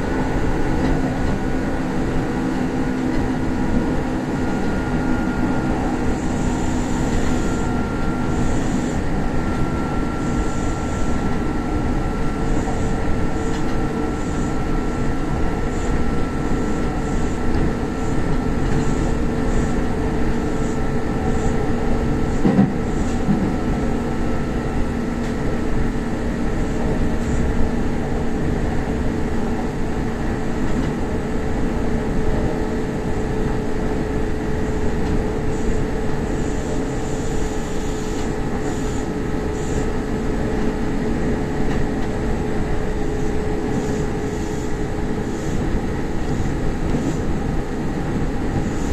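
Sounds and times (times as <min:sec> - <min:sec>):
train motor whine: 0:00.0 - 0:48.9
train rail rumble: 0:00.0 - 0:48.9.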